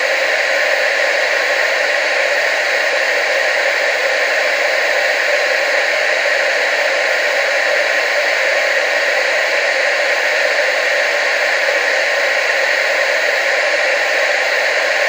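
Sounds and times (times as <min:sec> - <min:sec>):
television static hiss: 0:00.0 - 0:15.0.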